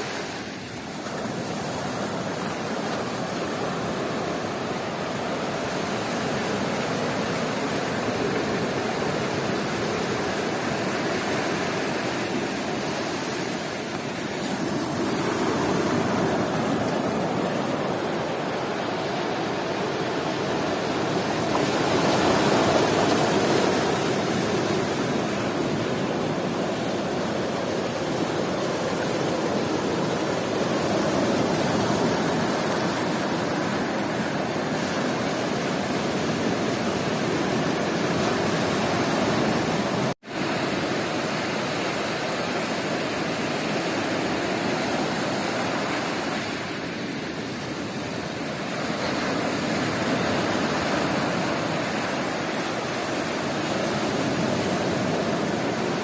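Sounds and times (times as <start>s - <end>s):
sea surf breaking on a beach: 0.0s - 56.0s.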